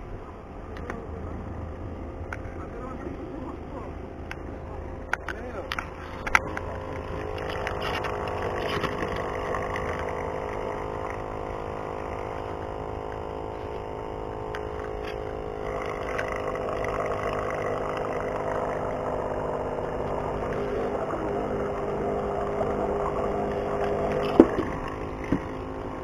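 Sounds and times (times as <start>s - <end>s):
motor engine running: 0.0s - 26.0s.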